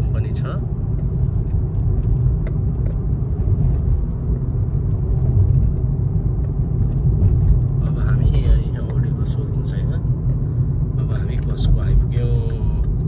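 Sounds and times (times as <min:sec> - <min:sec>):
road and engine rumble: 0:00.0 - 0:13.0.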